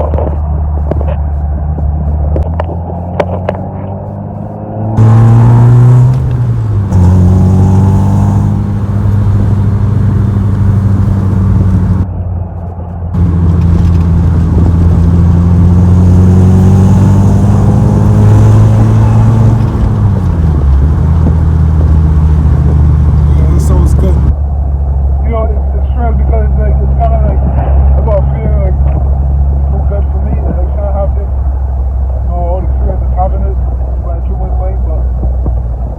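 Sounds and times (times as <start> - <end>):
car engine and exhaust drone: 0.0 - 35.9.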